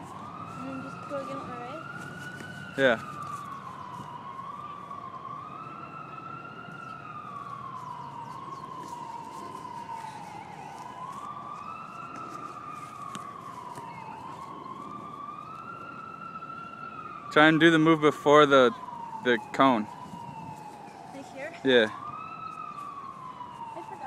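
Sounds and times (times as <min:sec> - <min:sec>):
siren wailing: 0:00.0 - 0:24.0.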